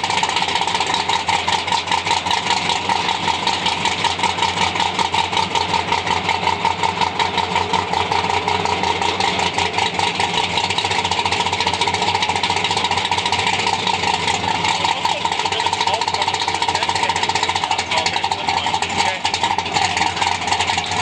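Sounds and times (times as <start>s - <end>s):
car engine idling loudly: 0.0s - 21.0s.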